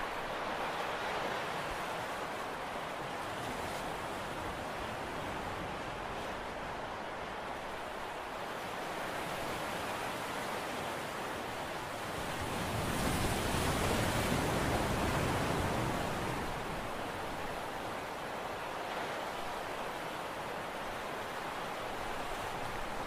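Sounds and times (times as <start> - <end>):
sea water rushing: 0.0 - 23.0
wind: 0.0 - 23.0.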